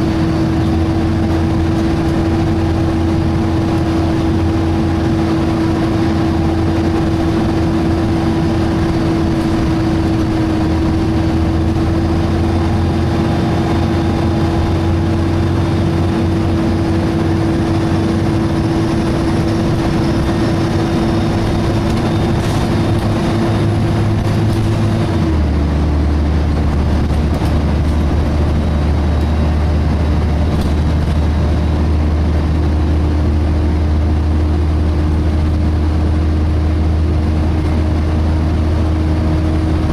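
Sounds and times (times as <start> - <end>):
bus engine droning: 0.0 - 39.9
cooling fan whine: 0.0 - 39.9.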